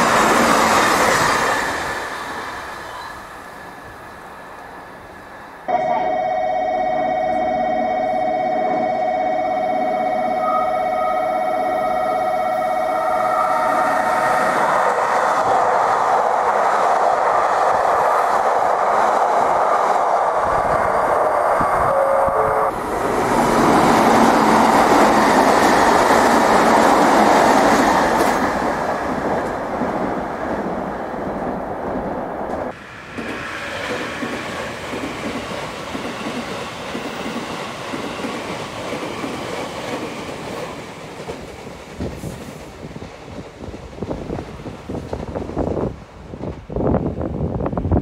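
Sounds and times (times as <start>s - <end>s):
train wheels rushing on rail: 0.0s - 5.6s, 10.7s - 48.0s.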